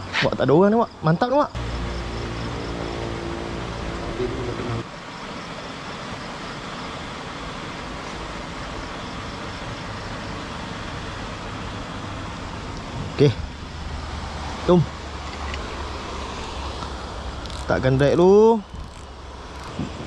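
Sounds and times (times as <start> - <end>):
low engine-like hum: 0.9 - 20.0.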